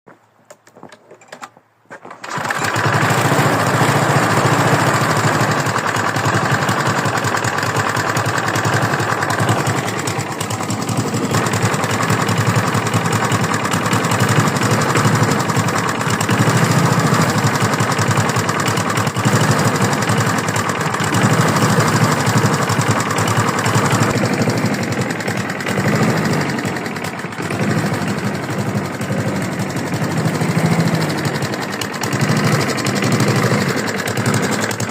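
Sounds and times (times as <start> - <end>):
lawn mower engine running: 0.6 - 34.9
engine knocking: 2.2 - 34.9.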